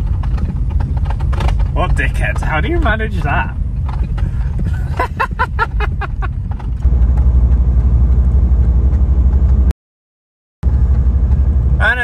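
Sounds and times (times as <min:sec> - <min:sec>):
car cabin road and engine rumble: 0:00.0 - 0:09.7, 0:10.6 - 0:12.0.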